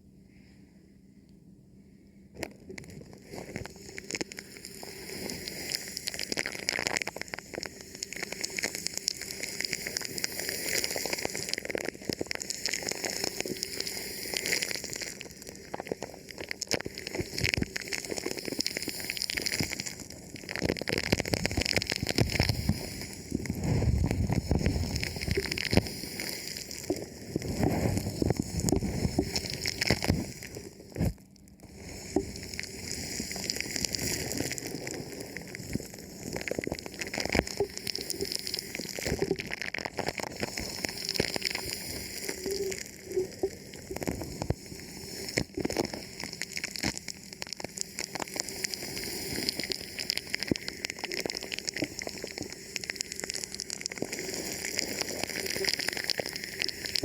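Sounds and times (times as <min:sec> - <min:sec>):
plastic film crinkling on microphone: 0:02.4 - 0:57.0.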